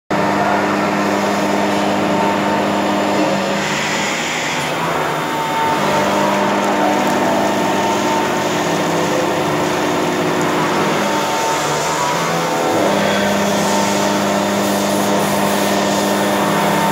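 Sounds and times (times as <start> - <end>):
milling cutter cutting metal: 0.1 - 16.9
spindle hum: 0.1 - 16.9.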